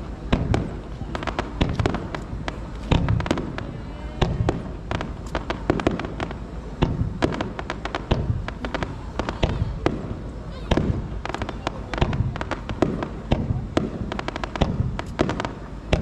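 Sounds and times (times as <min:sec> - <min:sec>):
deep firework booms: 0:00.0 - 0:16.0
fireworks cracks and bangs: 0:00.0 - 0:16.0.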